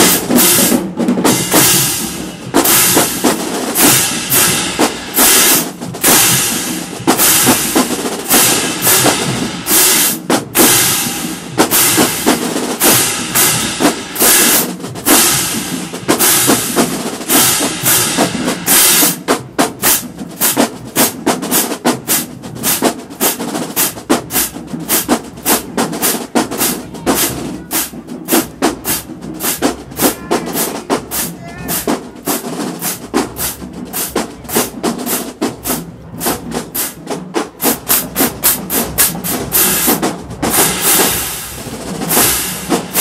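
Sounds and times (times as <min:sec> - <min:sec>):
drumline playing snare and bass drums: 0:00.0 - 0:43.0.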